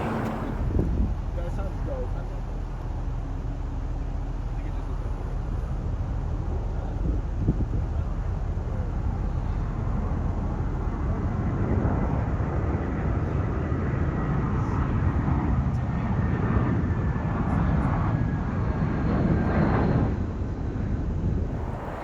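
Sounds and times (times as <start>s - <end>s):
jet engines passing by: 0.0s - 22.0s.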